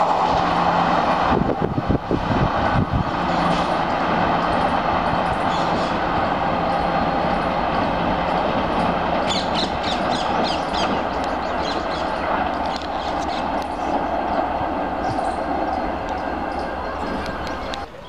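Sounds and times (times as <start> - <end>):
train wheels roaring on rails: 0.0 - 18.0.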